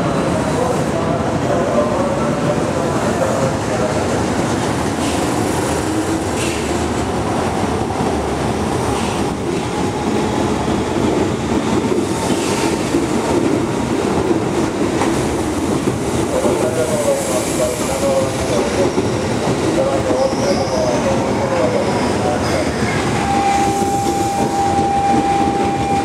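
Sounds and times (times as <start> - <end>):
train wheel and rail rumble: 0.0 - 26.0
rail clacks: 3.1 - 26.0.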